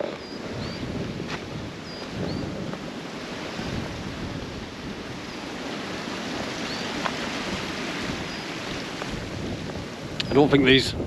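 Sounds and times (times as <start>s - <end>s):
wind buffeting microphone: 0.0s - 11.0s
wind rushing through woodland: 0.0s - 11.0s.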